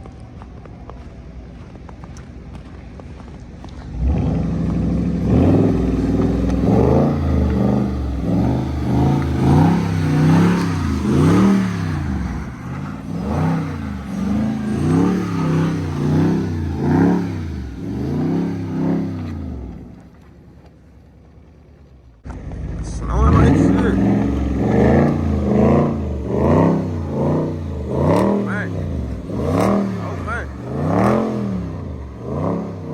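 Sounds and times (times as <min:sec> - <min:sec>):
car engine revving: 0:01.3 - 0:32.9.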